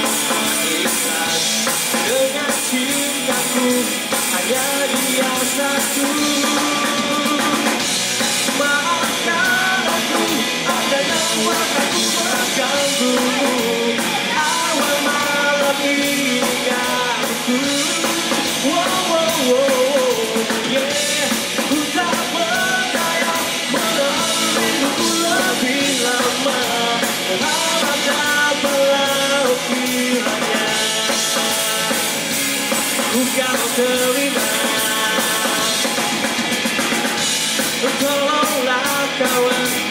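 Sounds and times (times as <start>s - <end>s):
man singing: 0.0s - 36.5s, 37.1s - 39.9s
bass guitar: 0.0s - 39.9s
drum kit: 0.0s - 39.9s
electric guitar: 0.0s - 39.9s.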